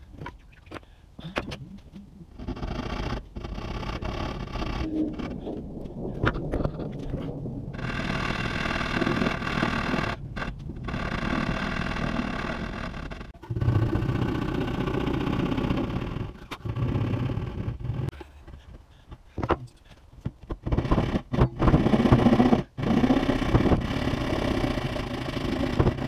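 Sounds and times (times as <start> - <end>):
hand tool scraping wood: 0.0 - 5.5, 8.1 - 26.0.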